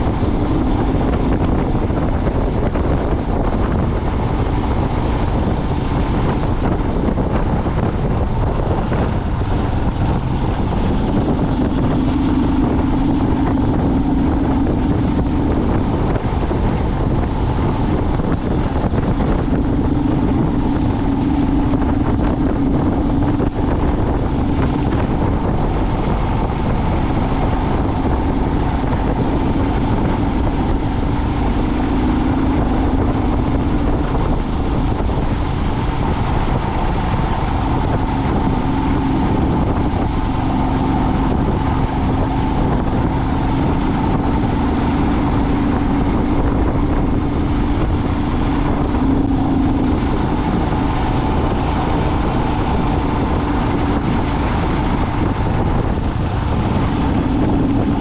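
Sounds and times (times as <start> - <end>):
road and wind noise: 0.0 - 58.0
vehicle engine droning: 0.0 - 58.0.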